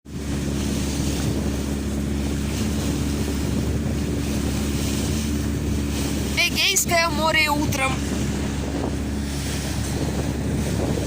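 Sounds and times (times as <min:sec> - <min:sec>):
wind: 0:00.0 - 0:11.0
boat engine humming: 0:00.1 - 0:11.0
water noise: 0:00.1 - 0:11.0.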